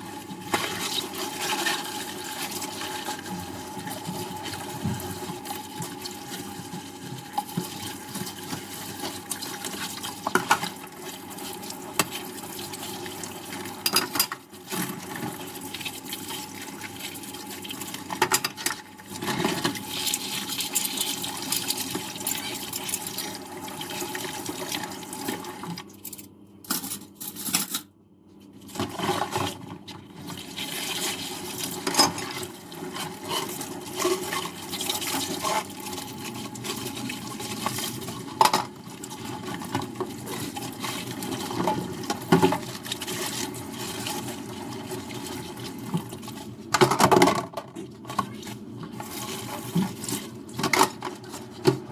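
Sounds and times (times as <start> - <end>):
running tap water: 0.0 - 25.9, 30.2 - 46.7.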